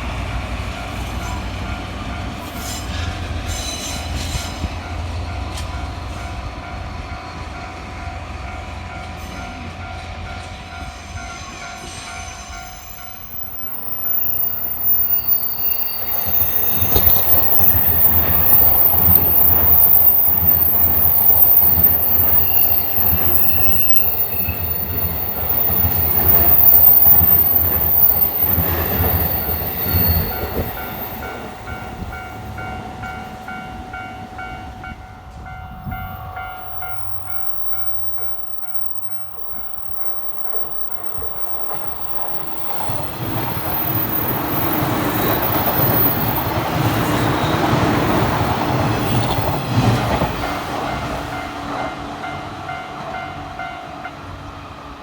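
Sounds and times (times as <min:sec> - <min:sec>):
train rumble and wheel clatter: 0:00.0 - 0:55.0
level crossing warning bell: 0:04.8 - 0:49.6.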